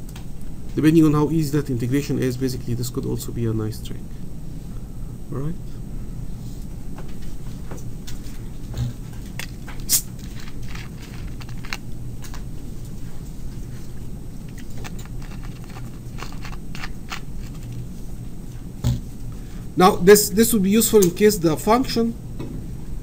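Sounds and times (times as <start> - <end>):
low hum: 0.0 - 20.4.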